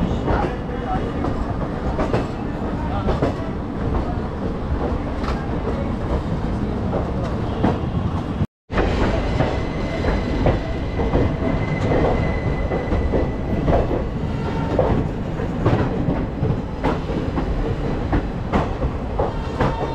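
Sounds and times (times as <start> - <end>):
train wheels rumbling: 0.0 - 19.9.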